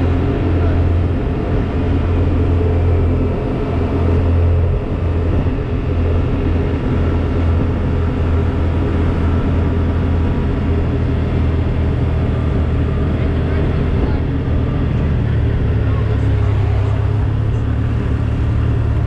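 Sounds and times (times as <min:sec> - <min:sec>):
vehicle engine and road noise: 0:00.0 - 0:19.0
wind hitting microphone: 0:00.0 - 0:19.0
wind rush: 0:00.0 - 0:19.0.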